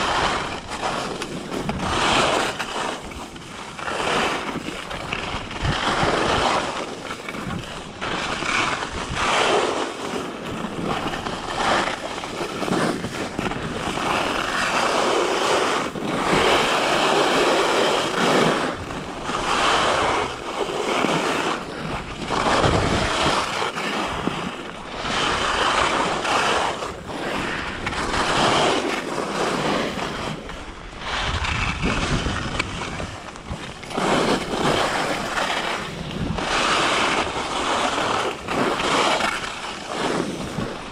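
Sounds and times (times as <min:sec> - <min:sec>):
skis scraping over snow: 0:00.0 - 0:40.9
wind noise on microphone: 0:00.0 - 0:40.9.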